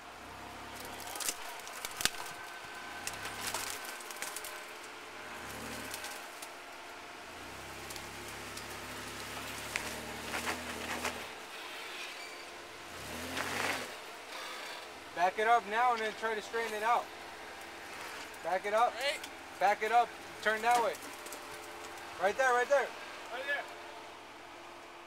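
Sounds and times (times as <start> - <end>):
suv engine at low revs: 0.0 - 25.0
tyres crackling on rock: 0.6 - 6.6, 7.8 - 11.4, 13.1 - 23.7.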